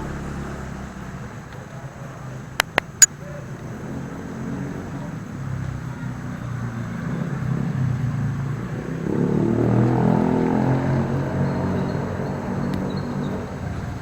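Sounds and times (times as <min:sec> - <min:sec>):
vehicle engine passing: 0:00.0 - 0:02.3, 0:03.0 - 0:14.0.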